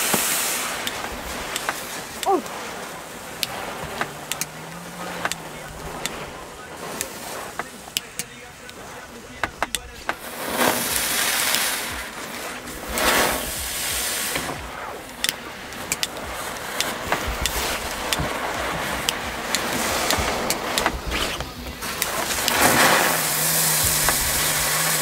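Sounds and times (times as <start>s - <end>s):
firework crackles and pops: 0.0s - 25.0s
fireworks hissing: 0.0s - 25.0s.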